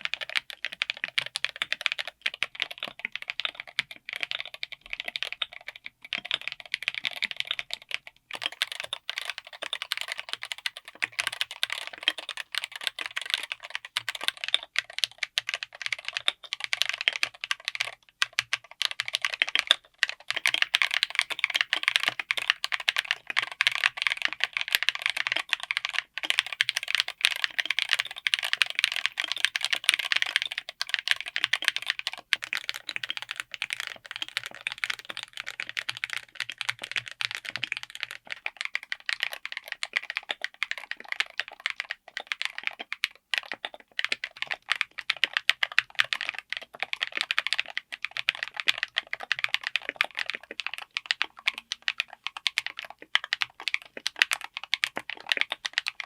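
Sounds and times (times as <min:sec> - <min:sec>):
fast mechanical keyboard typing: 0:00.0 - 0:56.0.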